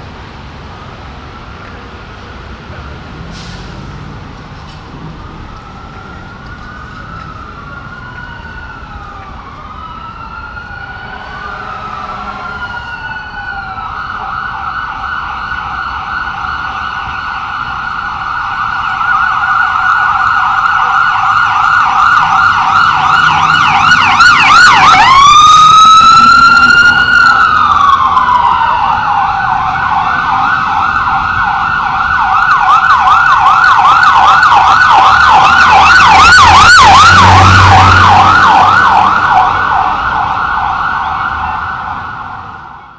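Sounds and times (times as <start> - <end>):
emergency vehicle sirens: 0.0 - 42.9.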